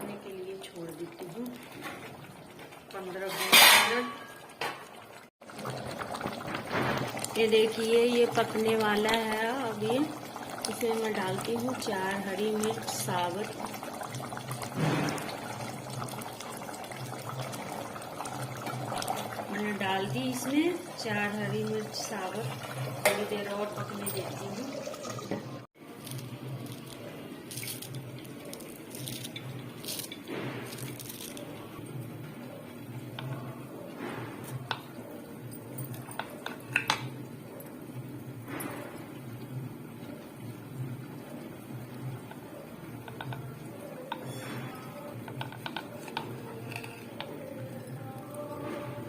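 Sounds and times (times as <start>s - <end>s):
gravy simmering in a pan: 0.2s - 30.7s, 31.4s - 49.0s.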